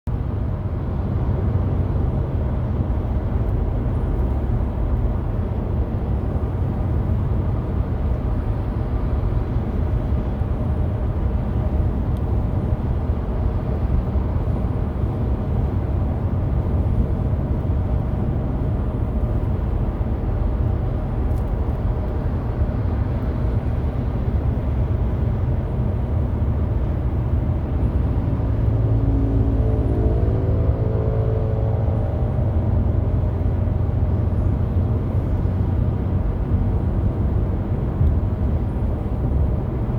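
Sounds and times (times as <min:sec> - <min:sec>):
car cruising on highway: 0:00.1 - 0:39.9.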